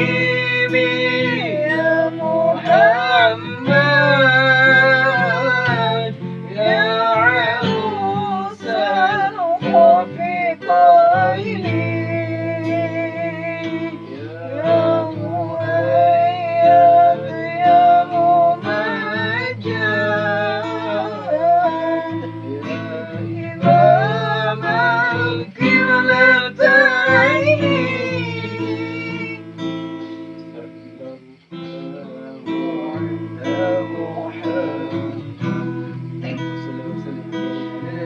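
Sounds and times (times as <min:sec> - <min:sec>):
acoustic guitar strumming: 0:00.0 - 0:38.0
person singing devotional song: 0:00.0 - 0:38.0.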